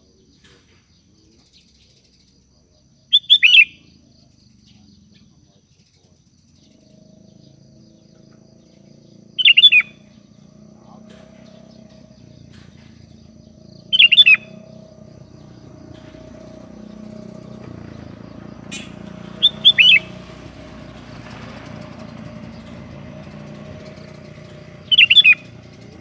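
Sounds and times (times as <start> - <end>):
bird calls: 0.0 - 26.0.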